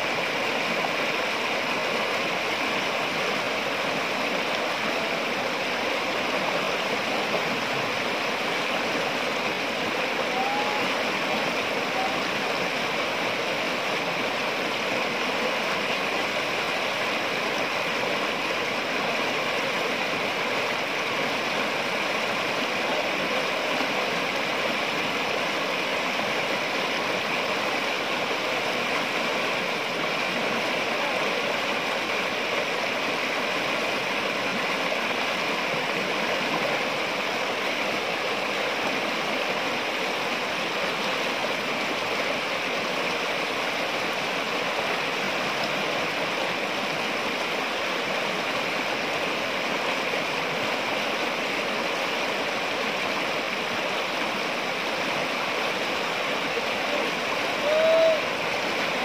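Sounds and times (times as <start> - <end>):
water rushing over boulders: 0.0 - 59.0.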